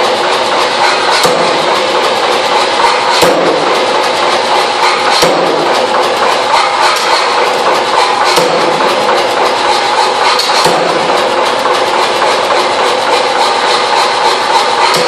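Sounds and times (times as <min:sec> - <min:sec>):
power hammer beating steel: 0:00.0 - 0:15.0.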